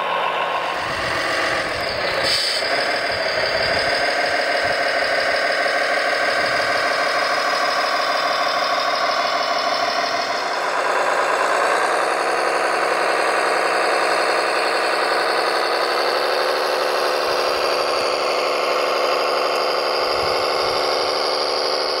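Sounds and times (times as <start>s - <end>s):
toy machine mechanical whine: 0.6s - 22.0s.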